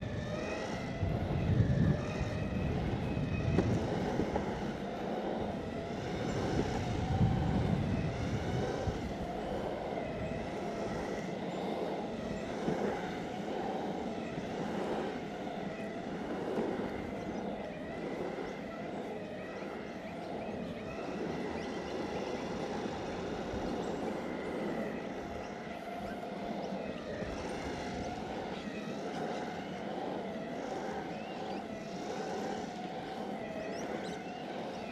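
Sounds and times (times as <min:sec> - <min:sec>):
wheels rolling on asphalt: 0:00.0 - 0:34.9
wind buffeting microphone: 0:00.0 - 0:34.9.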